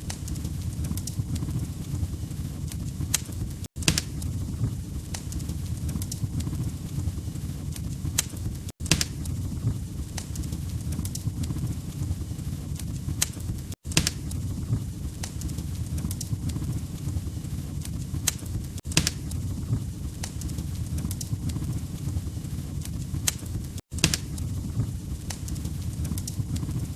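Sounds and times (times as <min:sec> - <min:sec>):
logs crackling and popping: 0:00.0 - 0:26.9
low rumble of fire: 0:00.0 - 0:26.9.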